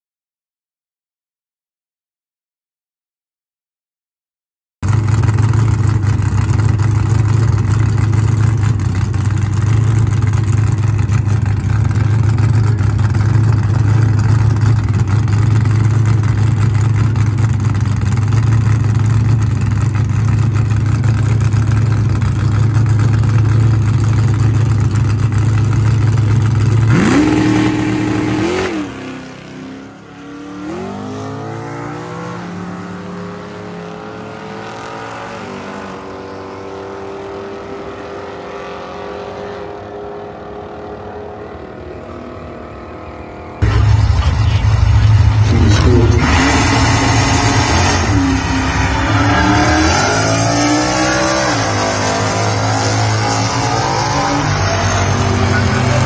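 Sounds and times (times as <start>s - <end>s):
drag car engine revving: 4.8s - 56.0s.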